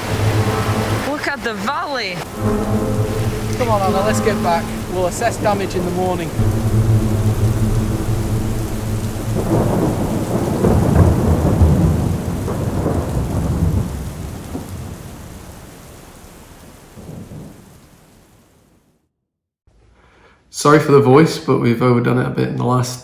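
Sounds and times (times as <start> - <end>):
heavy rain: 0.0 - 18.8
thunder rumbling: 0.0 - 18.8.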